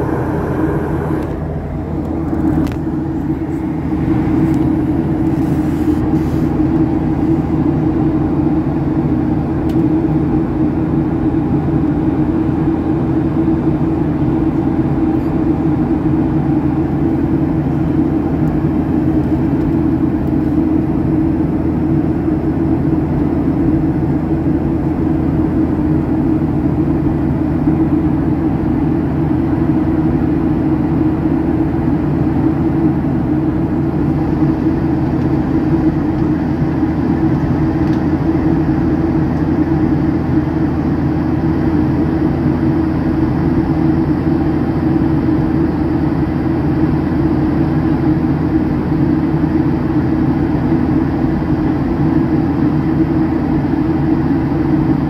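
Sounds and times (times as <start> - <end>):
airliner engine drone: 0.0 - 55.0
rushing air in cabin: 0.0 - 55.0.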